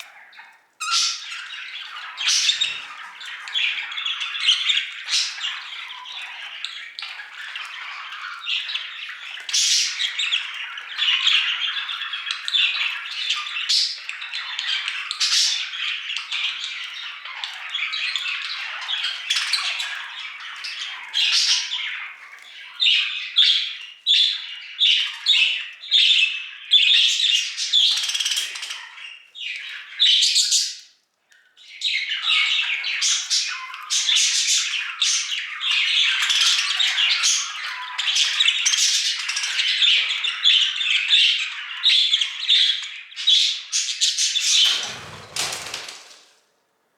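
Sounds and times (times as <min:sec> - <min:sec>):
budgerigars chattering and warbling: 0:00.0 - 0:31.0, 0:31.6 - 0:46.2.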